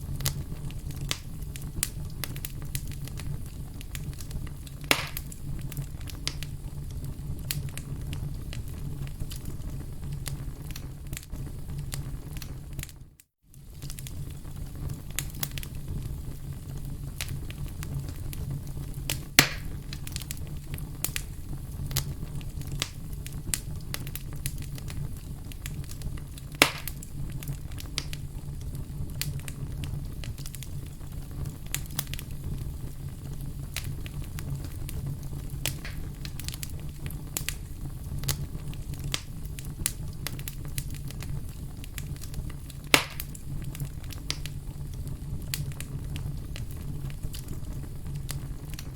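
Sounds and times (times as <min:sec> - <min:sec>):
fire burning in fireplace: 0:00.0 - 0:48.9
wood crackling and popping: 0:00.0 - 0:48.9.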